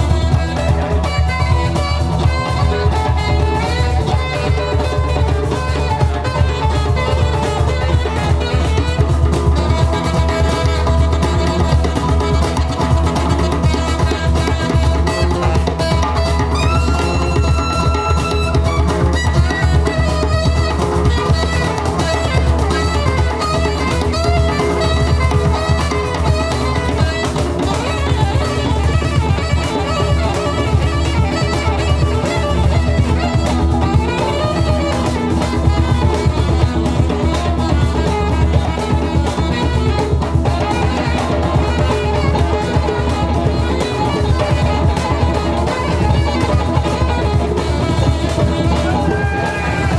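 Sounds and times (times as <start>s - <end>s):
drum kit beat: 0.0s - 49.9s
live band playing: 0.0s - 49.9s.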